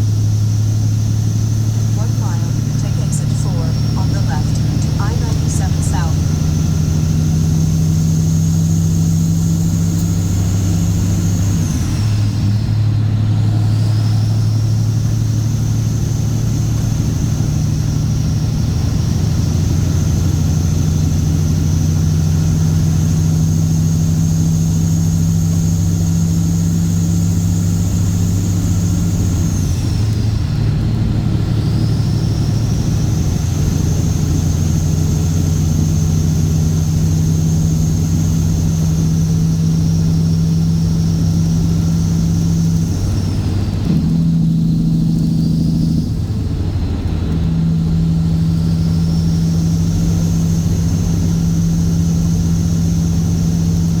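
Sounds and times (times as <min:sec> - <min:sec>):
diesel truck engine running: 0:00.0 - 0:54.0
high whine: 0:00.0 - 0:54.0.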